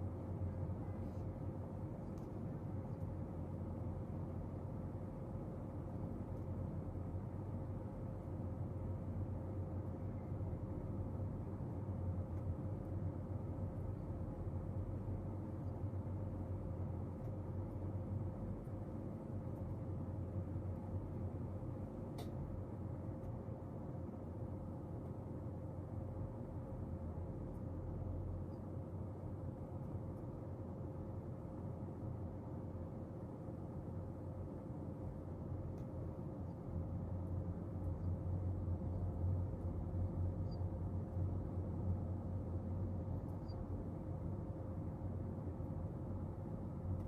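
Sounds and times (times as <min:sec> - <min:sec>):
faint steady tone: 0:00.0 - 0:47.0
low room hum: 0:00.0 - 0:47.0.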